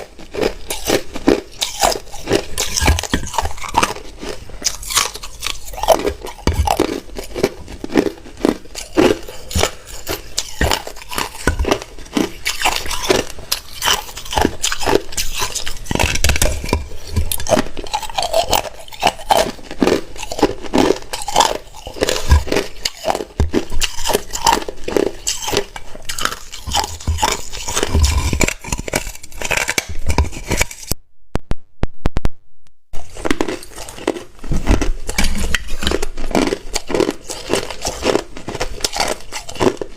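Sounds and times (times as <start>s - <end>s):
ice being chewed: 0.0s - 31.0s, 33.0s - 39.9s.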